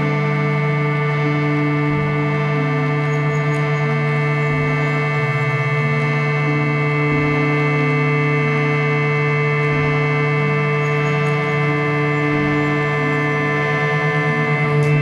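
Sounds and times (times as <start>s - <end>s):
harmonium drone and melody: 0.0s - 15.0s.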